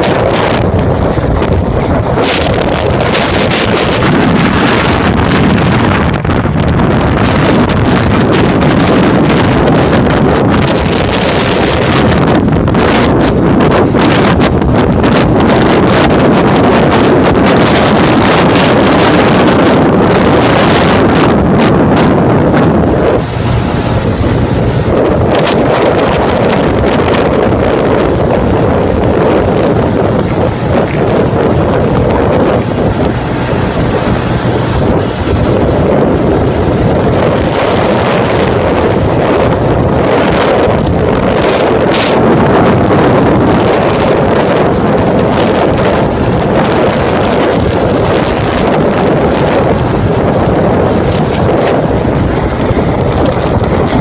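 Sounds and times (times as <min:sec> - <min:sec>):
motorcycle running: 0:00.0 - 0:54.0
wind buffeting microphone: 0:00.0 - 0:54.0.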